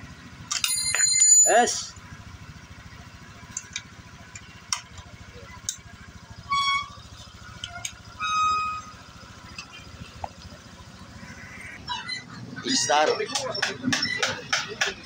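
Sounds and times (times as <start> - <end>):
steady low hum: 1.8 - 15.0.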